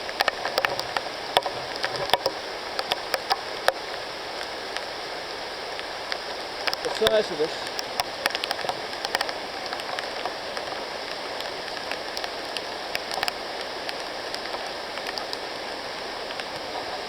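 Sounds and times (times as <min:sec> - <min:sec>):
sharp taps of raindrops: 0:00.0 - 0:05.0, 0:05.7 - 0:17.0
rain falling: 0:00.0 - 0:17.0.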